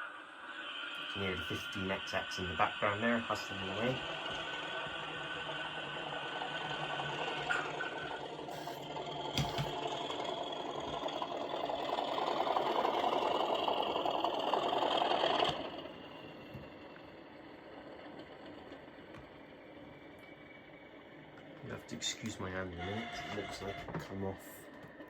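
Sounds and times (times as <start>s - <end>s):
synthetic locomotive engine sound: 0.0s - 25.0s
model train motors rattling: 1.0s - 25.0s.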